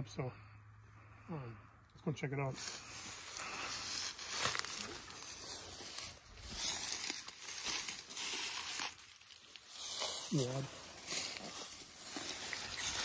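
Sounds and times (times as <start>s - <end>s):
footsteps through dry grass: 2.5s - 13.0s.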